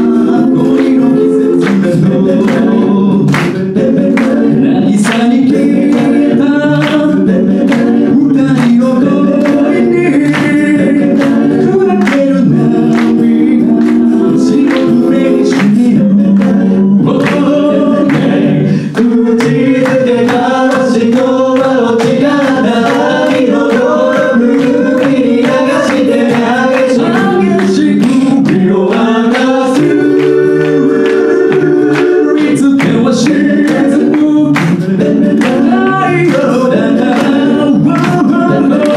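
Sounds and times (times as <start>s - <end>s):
a cappella group singing: 0.0s - 38.9s
percussive beat: 0.0s - 38.9s.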